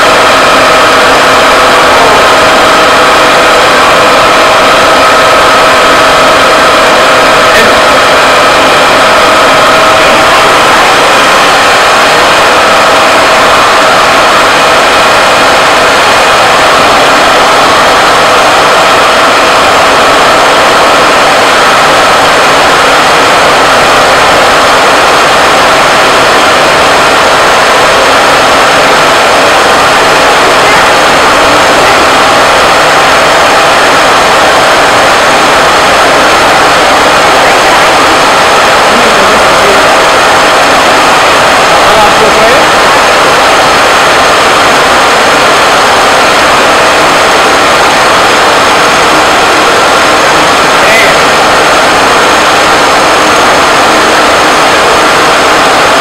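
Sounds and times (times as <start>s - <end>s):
milling machine running: 0.0s - 56.0s.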